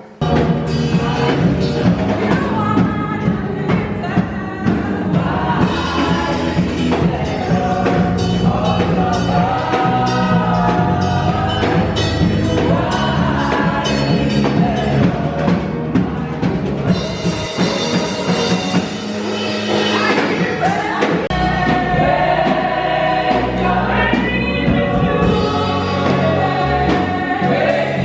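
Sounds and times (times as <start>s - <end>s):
gospel singing over drums: 0.1s - 28.0s.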